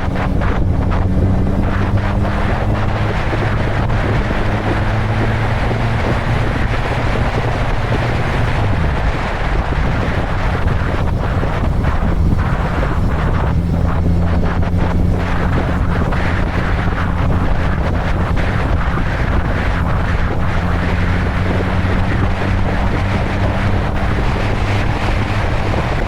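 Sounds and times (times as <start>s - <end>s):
motorcycle engine humming: 0.0s - 26.0s
wind rushing over microphone: 0.0s - 26.0s.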